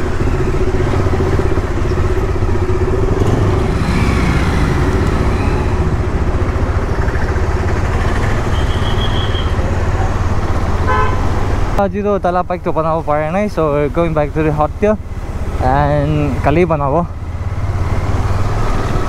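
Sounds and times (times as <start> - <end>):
motorcycle engine drone: 0.0 - 11.0, 11.6 - 19.0
road and wind noise: 0.0 - 19.0.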